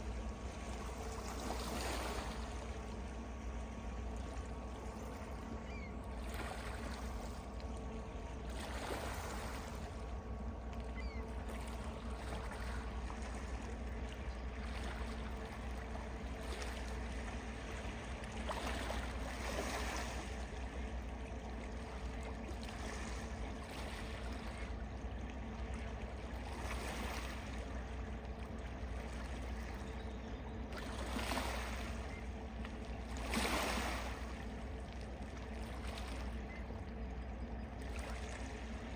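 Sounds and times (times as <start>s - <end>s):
water lapping and splashing: 0.0s - 38.9s.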